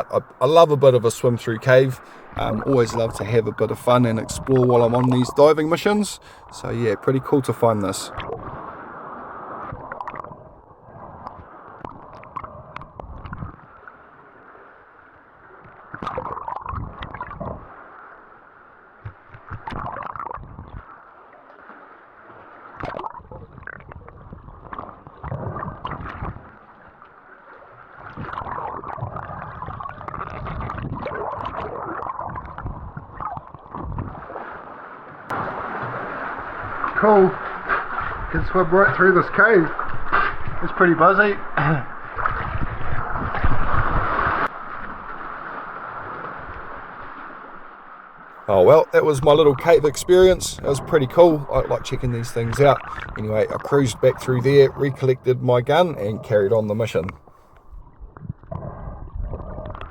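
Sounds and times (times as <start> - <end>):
underwater water sloshing: 0.0 - 59.9.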